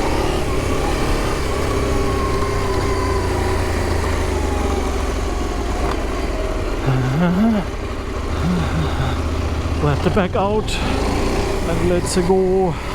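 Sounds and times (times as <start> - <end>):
motorcycle engine running: 0.0 - 12.9
wind and road noise: 0.0 - 12.9.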